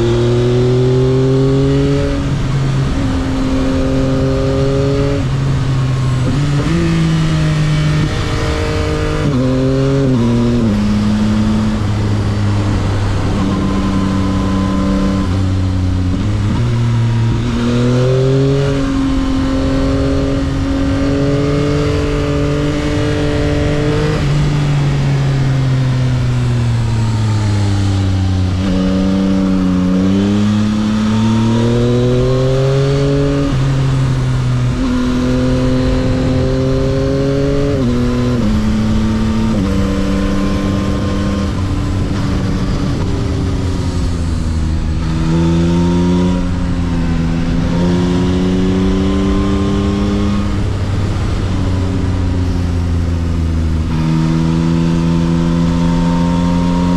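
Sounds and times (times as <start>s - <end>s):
motorcycle engine riding: 0.0s - 56.9s.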